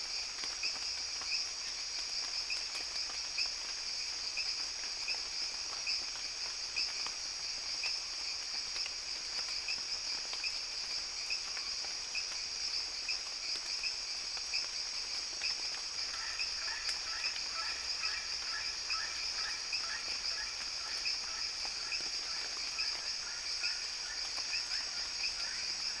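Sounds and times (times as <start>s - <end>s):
high-pitched insect chorus: 0.1s - 26.0s.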